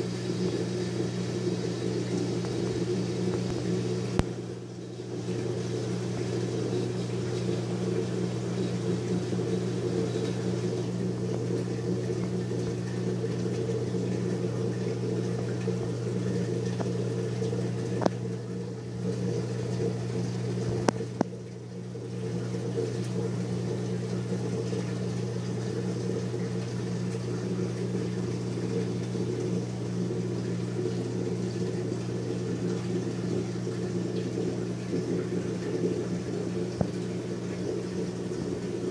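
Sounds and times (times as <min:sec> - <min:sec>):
aquarium pumps humming: 0:00.0 - 0:38.9.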